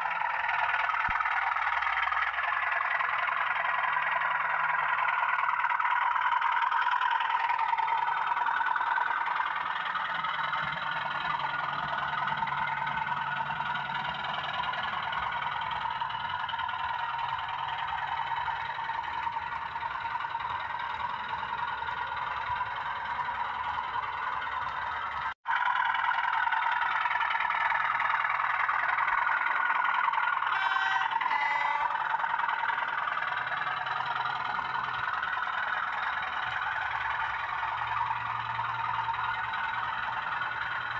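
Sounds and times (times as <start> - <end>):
model locomotive drone and whine: 0.0 - 40.9.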